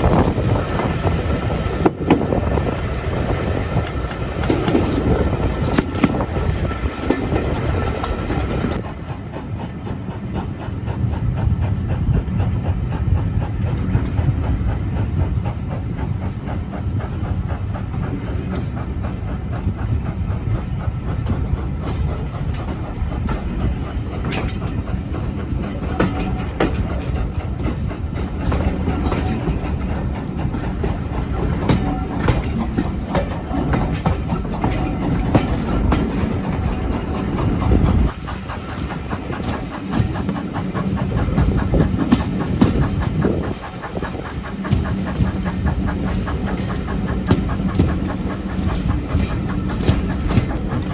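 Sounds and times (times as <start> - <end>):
train rumbling: 0.0 - 50.9
wheels clickety-clack on rails: 0.0 - 50.9.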